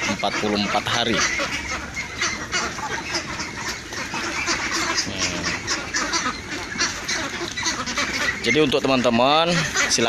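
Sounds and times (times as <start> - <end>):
young ducks quacking: 0.0 - 10.0.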